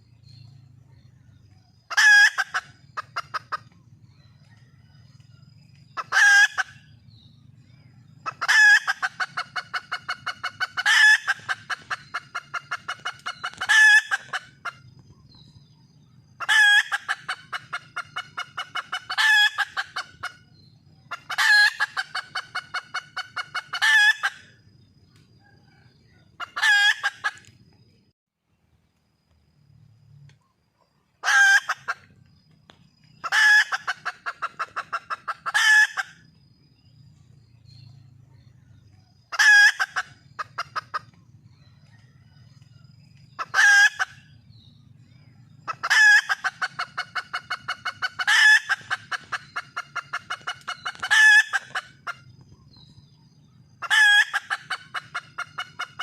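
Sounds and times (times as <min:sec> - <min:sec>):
hen cackling and clucking: 0:00.4 - 0:27.8, 0:30.8 - 0:37.1, 0:37.8 - 0:56.0.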